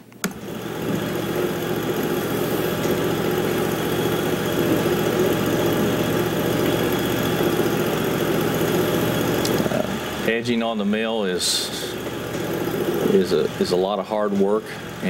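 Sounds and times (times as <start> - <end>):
sawmill engine running: 0.2 - 15.0.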